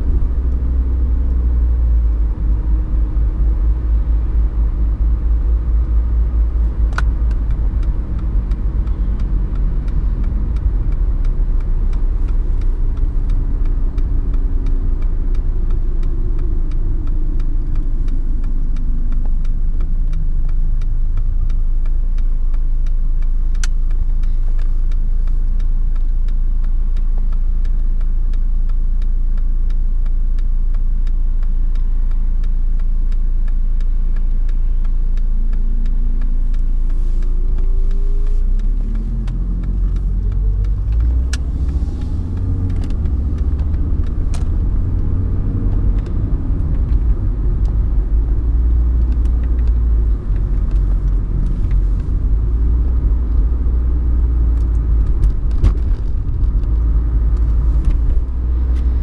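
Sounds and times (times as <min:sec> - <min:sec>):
diesel car engine from inside cabin: 0:00.0 - 0:59.0.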